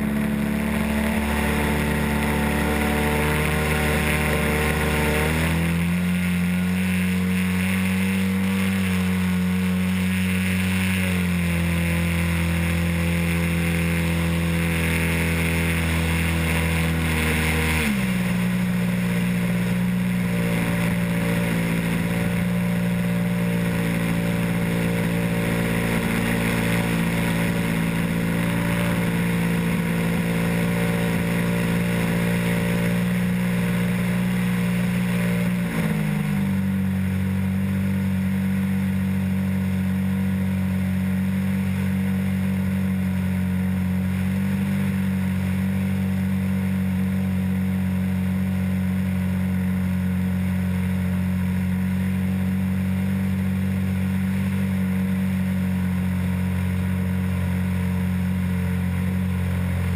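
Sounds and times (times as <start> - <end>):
model airplane motor and propeller: 0.0 - 59.9.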